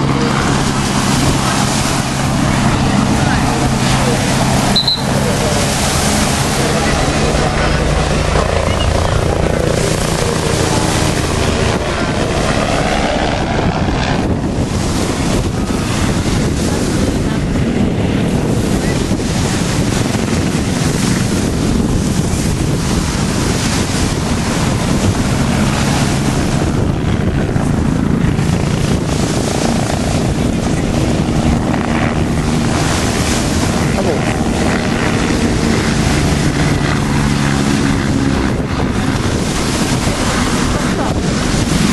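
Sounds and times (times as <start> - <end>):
faint helicopter engine hum: 0.0 - 41.9
low rumble: 0.0 - 41.9
wind on microphone: 0.0 - 41.9.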